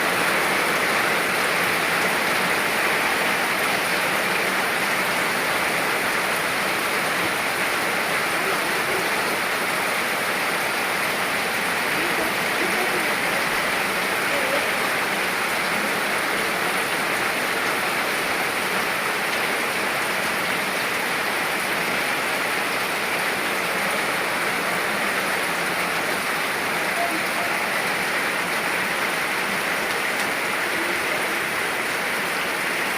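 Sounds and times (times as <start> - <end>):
steady rainfall hiss: 0.0 - 32.9.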